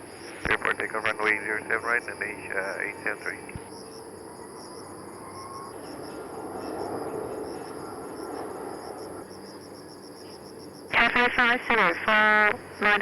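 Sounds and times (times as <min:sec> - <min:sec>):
distant jet airliner rumble: 0:00.0 - 0:13.0
insects chirring: 0:00.0 - 0:13.0.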